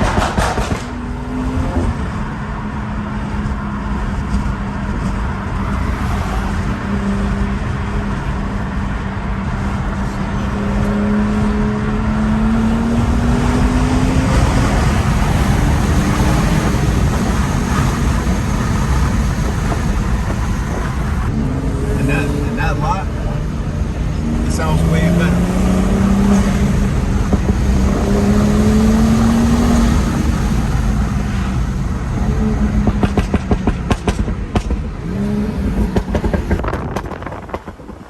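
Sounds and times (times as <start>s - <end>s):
car engine drone: 0.0s - 38.0s
road rumble: 0.0s - 38.0s.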